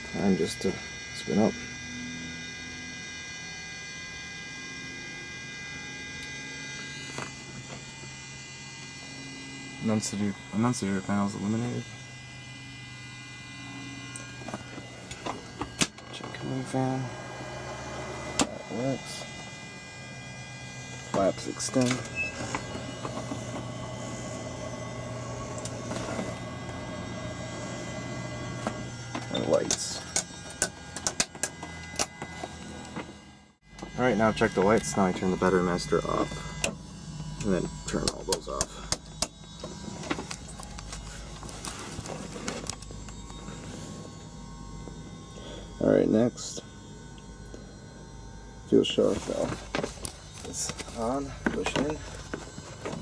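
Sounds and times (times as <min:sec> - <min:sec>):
electrical hum and whine: 0:00.0 - 0:53.0.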